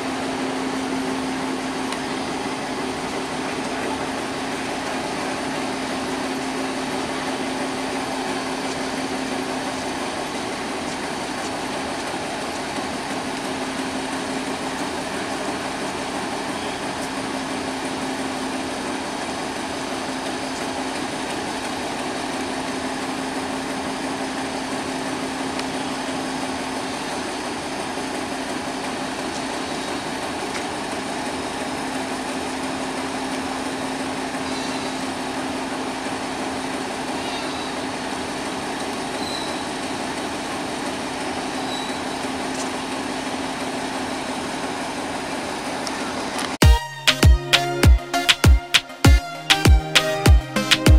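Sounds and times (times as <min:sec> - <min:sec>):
diesel railway engine idling: 0:00.0 - 0:48.4.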